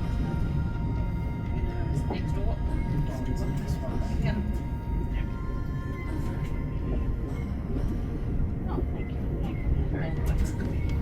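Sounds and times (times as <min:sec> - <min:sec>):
background music: 0:00.0 - 0:11.0
steady low rumble: 0:00.0 - 0:11.0.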